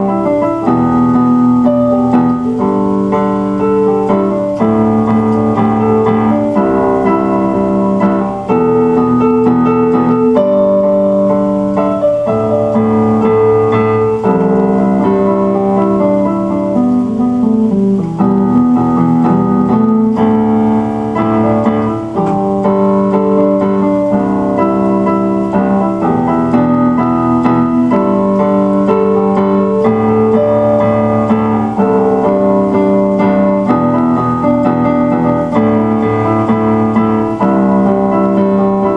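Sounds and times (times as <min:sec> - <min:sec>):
electric piano playing chords: 0:00.0 - 0:38.9.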